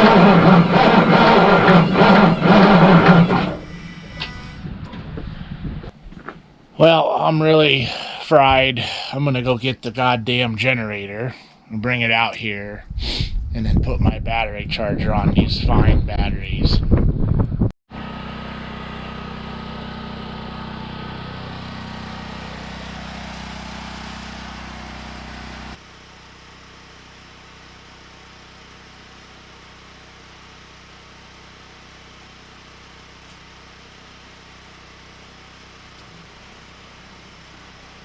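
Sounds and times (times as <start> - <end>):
portable generator engine running: 0.0 - 12.9, 17.9 - 38.0.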